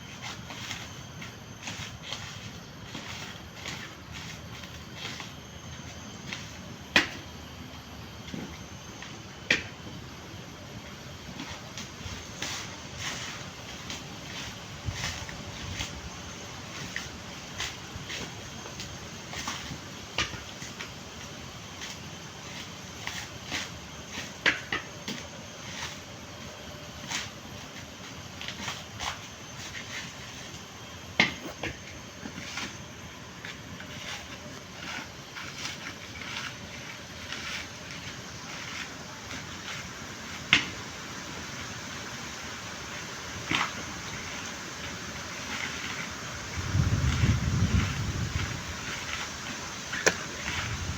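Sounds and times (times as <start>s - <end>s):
steady low hiss: 0.0s - 50.9s.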